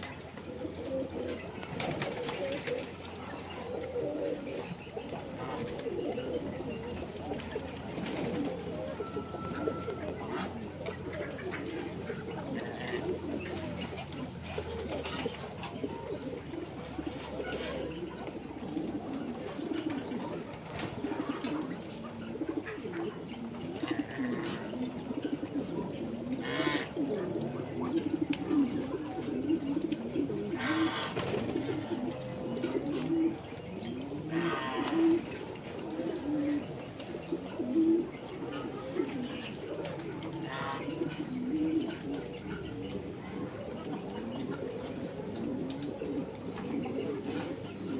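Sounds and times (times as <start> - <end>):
ducks and geese calling: 0.0 - 47.9.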